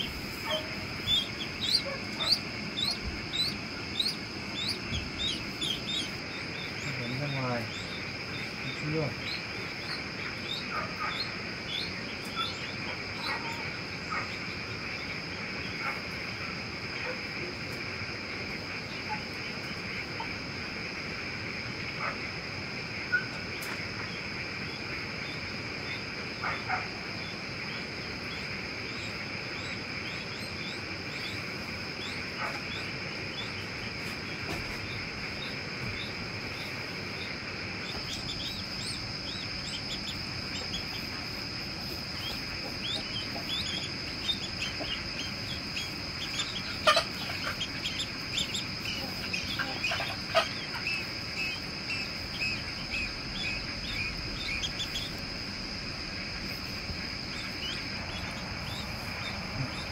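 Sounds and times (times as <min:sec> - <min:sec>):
crickets droning: 0:00.0 - 0:59.9
ducklings peeping: 0:00.0 - 0:59.9.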